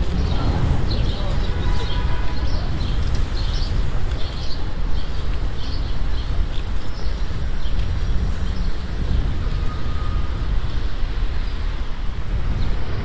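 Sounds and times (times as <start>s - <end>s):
birds chirping: 0.0s - 13.0s
street traffic: 0.0s - 13.0s
wind rumble: 0.0s - 13.0s.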